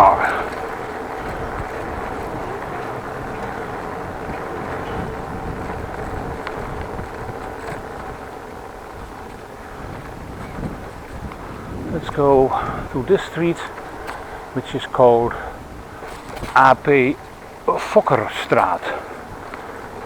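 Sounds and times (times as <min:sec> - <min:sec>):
wind on microphone: 0:00.0 - 0:17.6
bicycle rolling on street: 0:00.0 - 0:20.0.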